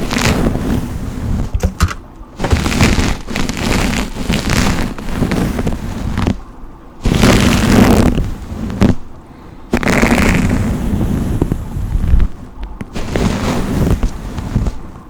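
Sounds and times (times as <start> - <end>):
slow brush strokes: 0.0 - 1.6, 2.4 - 15.0.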